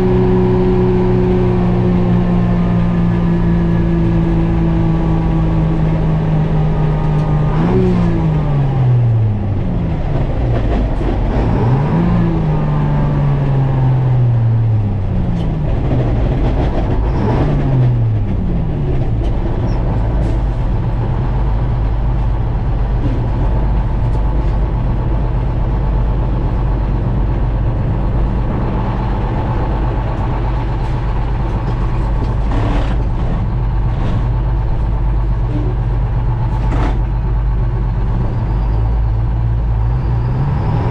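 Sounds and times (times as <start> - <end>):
truck engine pulling under load: 0.0 - 40.9.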